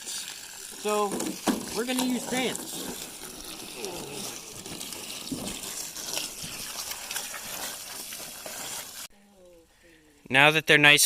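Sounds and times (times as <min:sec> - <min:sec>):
hose spraying water: 0:00.0 - 0:09.1.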